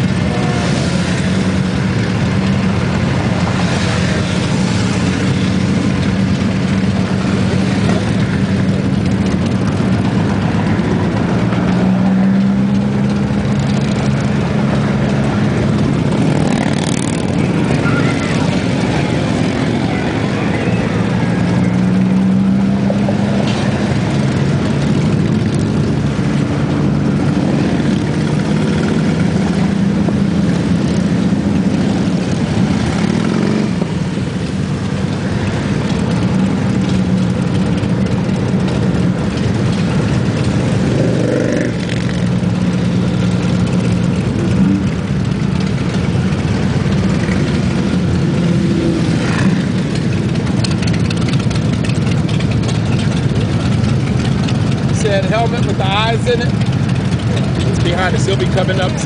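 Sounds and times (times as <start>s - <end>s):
motorcycle engines humming: 0.0s - 59.0s.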